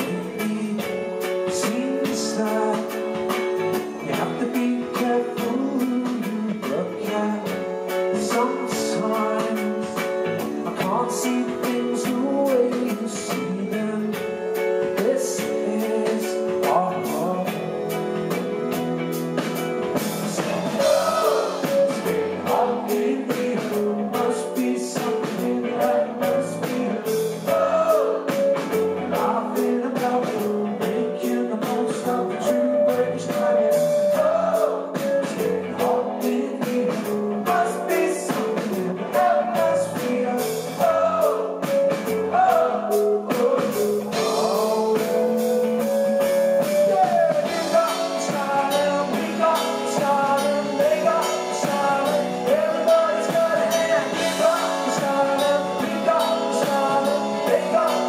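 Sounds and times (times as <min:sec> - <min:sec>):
bass guitar: 0:00.0 - 0:58.0
drum kit: 0:00.0 - 0:58.0
electric guitar: 0:00.0 - 0:58.0
man singing lead: 0:00.0 - 0:58.0.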